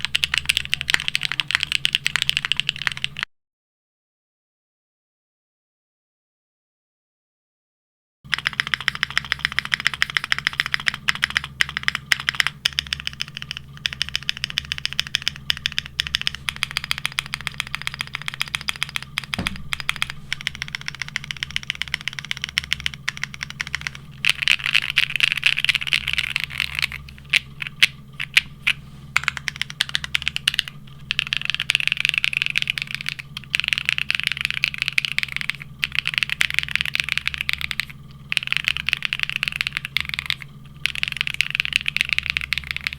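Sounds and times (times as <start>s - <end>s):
mechanical keyboard typing: 0.0s - 3.3s, 8.3s - 42.9s.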